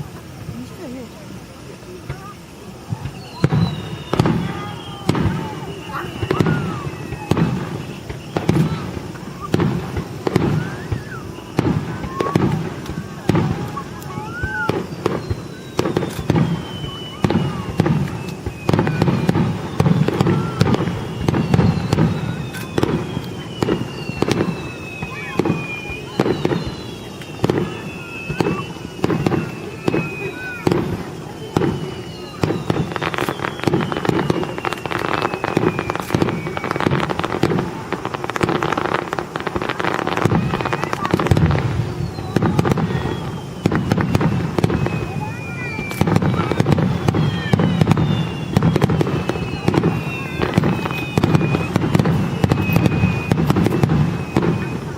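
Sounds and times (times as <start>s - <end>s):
falling firework whistle: 0.0s - 54.9s
fireworks booming: 0.0s - 54.9s
fireworks crackling: 0.0s - 54.9s.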